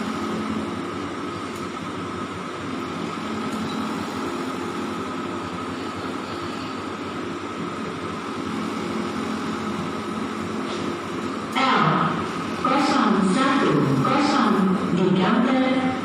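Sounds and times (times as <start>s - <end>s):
mechanical hum with whine: 0.0s - 16.0s.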